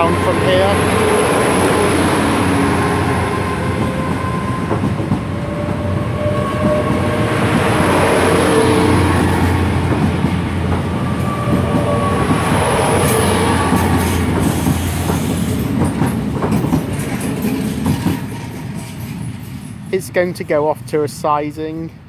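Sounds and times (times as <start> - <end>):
train wheels rolling on rails: 0.0 - 20.8
train diesel engine hum: 0.0 - 22.0.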